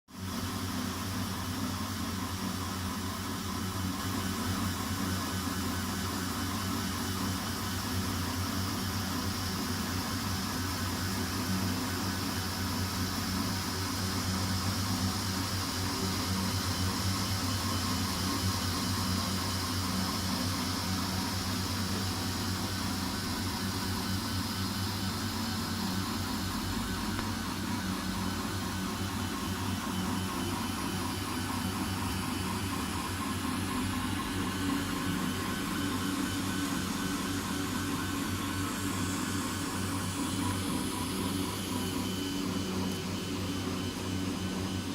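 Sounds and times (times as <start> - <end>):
printer fans and motors whirring: 0.2 - 44.9.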